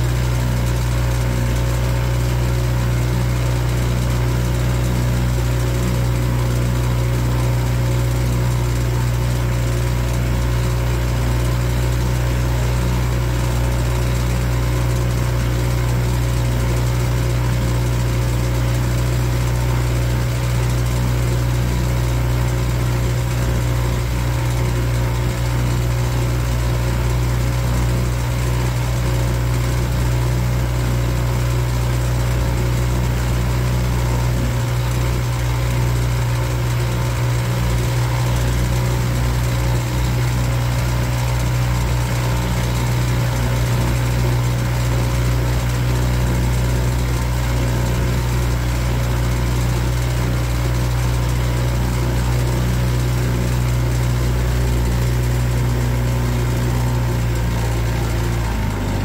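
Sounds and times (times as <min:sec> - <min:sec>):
boat engine drone: 0:00.0 - 0:59.0.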